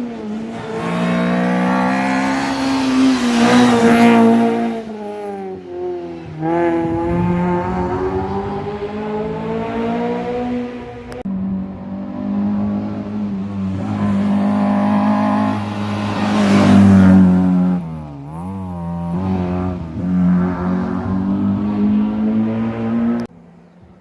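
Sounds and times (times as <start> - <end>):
car accelerating past: 0.0 - 24.0
rally car engines revving: 0.0 - 24.0.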